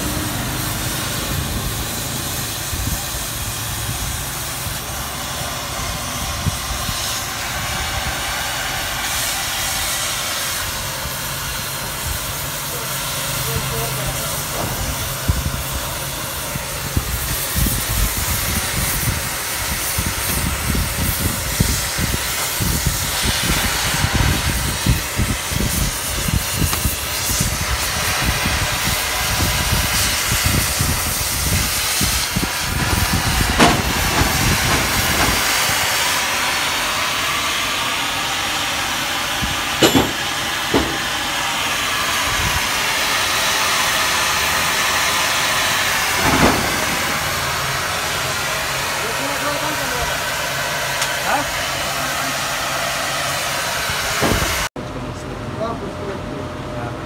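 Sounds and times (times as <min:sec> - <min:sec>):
cutting torch hissing: 0:00.0 - 0:54.8.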